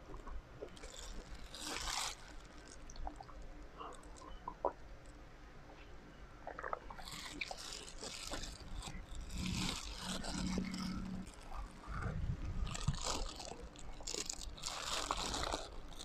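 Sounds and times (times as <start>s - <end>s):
plastic gloves crinkling: 0.0s - 4.8s, 6.5s - 16.0s
low steady hum: 0.0s - 16.0s.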